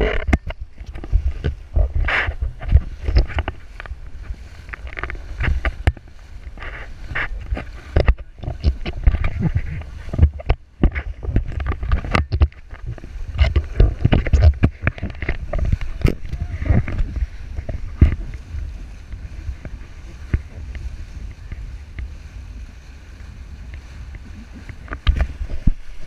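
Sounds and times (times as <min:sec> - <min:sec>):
water slapping and splashing: 0:00.0 - 0:26.0
wind buffeting microphone: 0:00.0 - 0:26.0.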